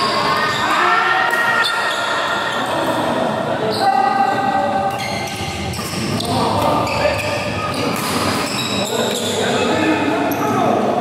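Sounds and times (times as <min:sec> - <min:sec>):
players talking and calling: 0:00.0 - 0:11.0.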